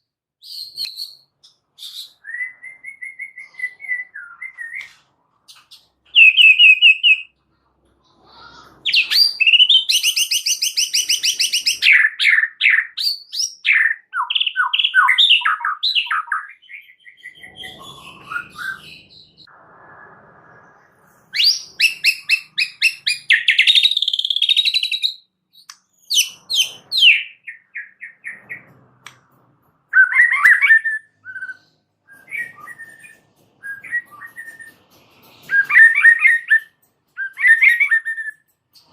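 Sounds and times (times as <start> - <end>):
songbird singing trills and whistles: 0.4 - 4.9, 5.5 - 7.3, 8.9 - 19.5, 21.3 - 28.7, 29.9 - 34.8, 35.5 - 38.9.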